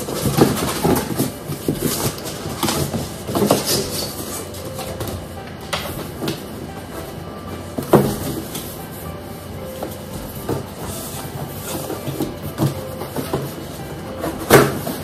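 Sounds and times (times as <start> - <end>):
cardboard box scraping and rustling: 0.0 - 15.0.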